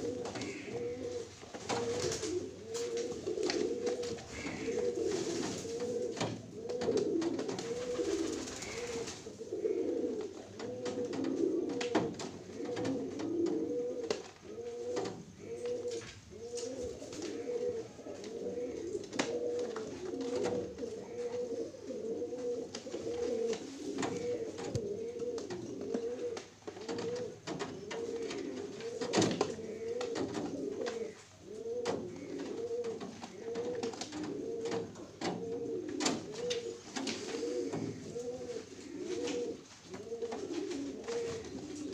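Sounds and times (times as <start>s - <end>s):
pigeon cooing: 0.0s - 41.9s.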